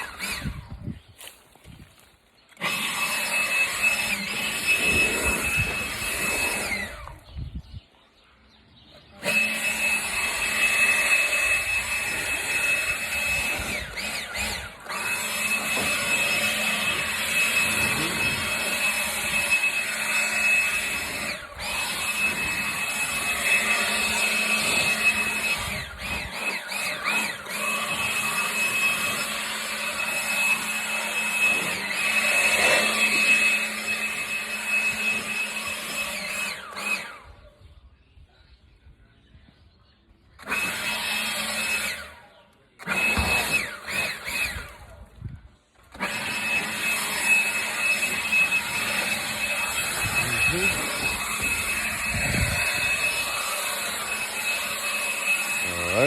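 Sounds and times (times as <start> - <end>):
small electric motor whining: 0.0 - 1.8, 2.4 - 7.7, 9.0 - 37.9, 40.4 - 56.0.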